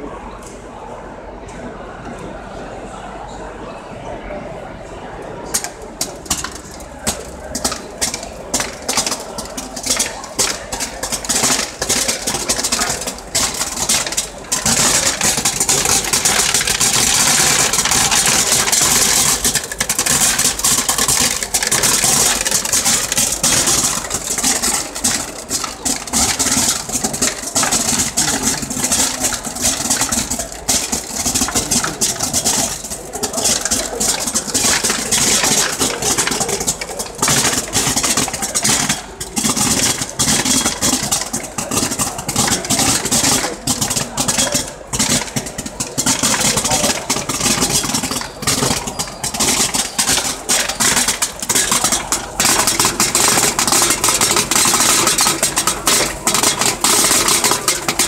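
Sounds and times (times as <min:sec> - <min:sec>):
plastic flakes rattling into bin: 0:05.5 - 0:58.0.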